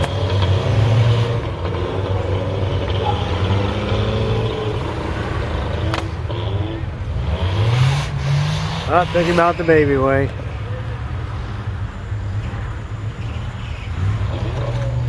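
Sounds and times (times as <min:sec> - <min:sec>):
truck engines running under load: 0:00.0 - 0:15.0.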